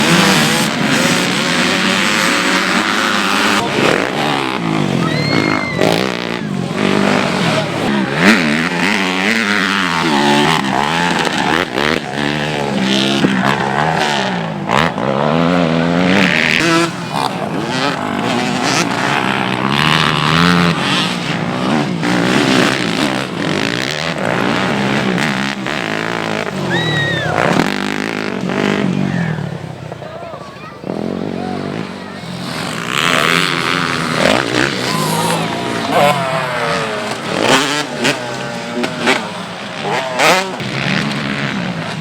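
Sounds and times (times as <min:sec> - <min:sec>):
motocross motorcycles revving: 0:00.0 - 0:42.0.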